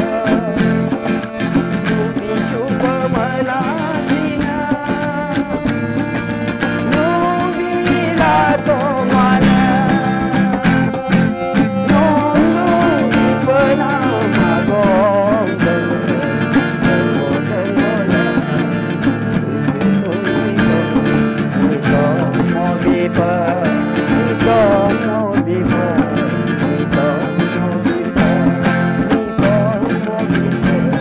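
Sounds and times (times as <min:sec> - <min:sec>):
man singing: 0:00.0 - 0:31.0.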